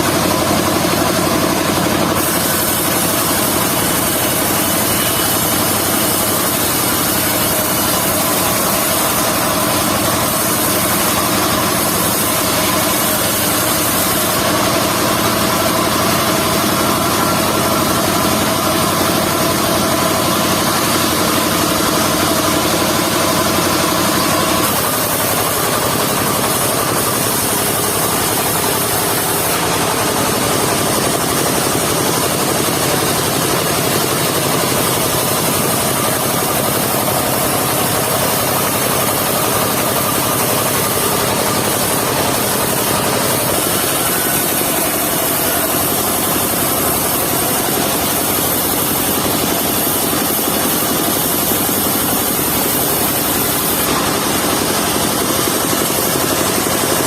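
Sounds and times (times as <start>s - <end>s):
mobile sawmill running: 0.0s - 57.0s.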